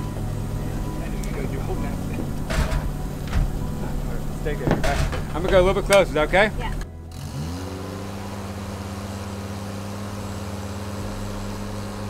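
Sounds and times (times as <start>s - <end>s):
lift motor whine: 0.0s - 12.0s.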